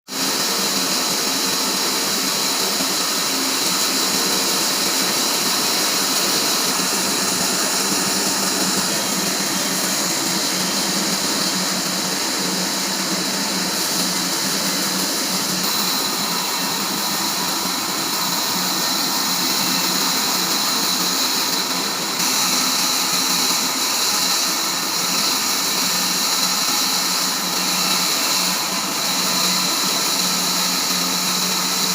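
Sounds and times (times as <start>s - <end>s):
saw blade hissing through log: 0.2s - 31.9s.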